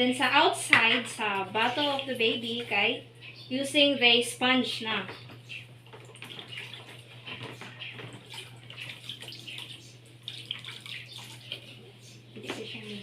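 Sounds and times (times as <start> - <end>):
water sloshing in a basin: 0.7 - 3.1, 4.9 - 13.0.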